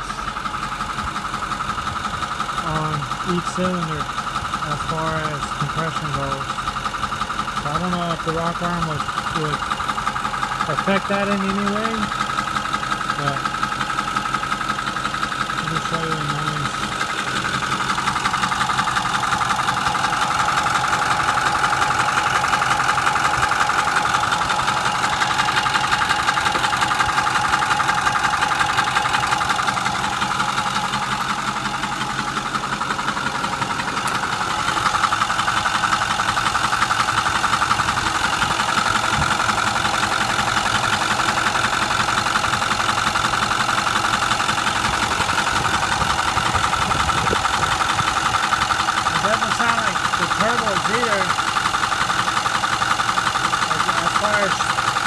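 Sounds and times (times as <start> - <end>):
diesel engine idling with knock: 0.0 - 55.0.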